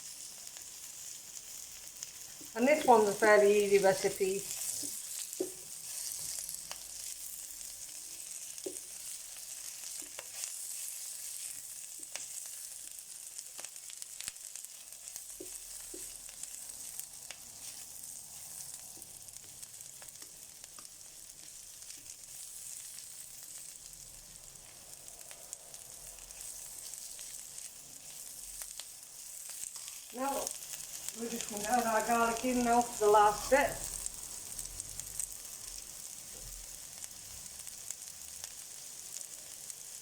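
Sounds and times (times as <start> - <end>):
onions sizzling in a pan: 0.0 - 40.0.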